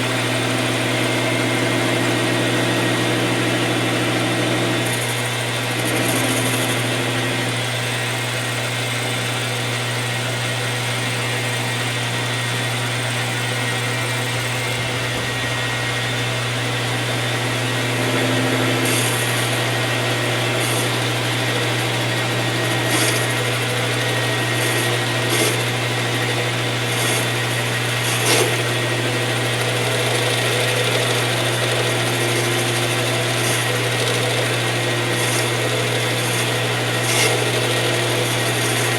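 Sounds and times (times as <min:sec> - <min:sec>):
metal lathe running: 0:00.0 - 0:38.9.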